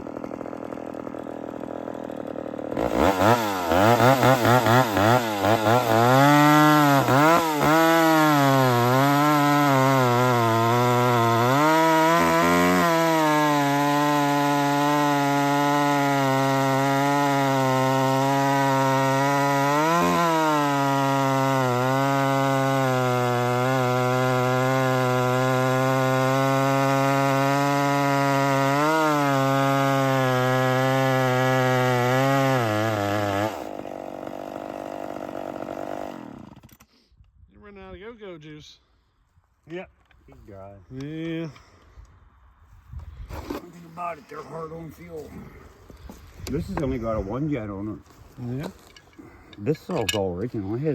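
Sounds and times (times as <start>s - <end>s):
chainsaw cutting: 0.0s - 37.1s, 43.1s - 50.9s.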